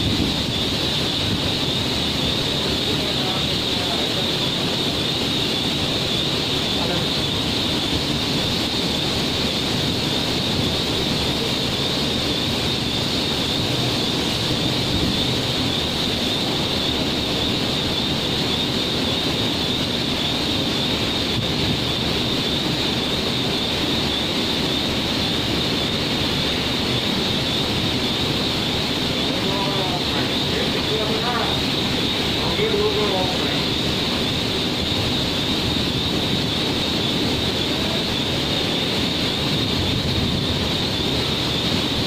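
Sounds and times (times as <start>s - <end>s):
constant high hiss: 0.0s - 42.0s
factory machinery noise: 0.0s - 42.0s.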